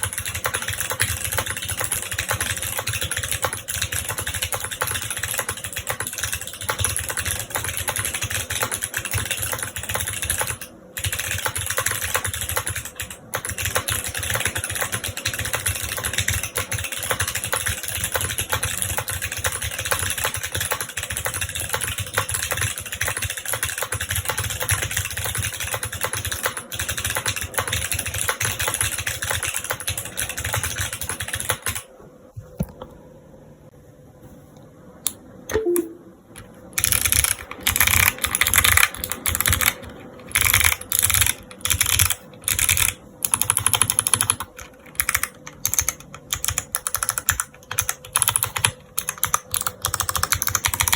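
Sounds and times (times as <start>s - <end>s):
fast mechanical keyboard typing: 0.0s - 31.9s, 36.8s - 50.9s.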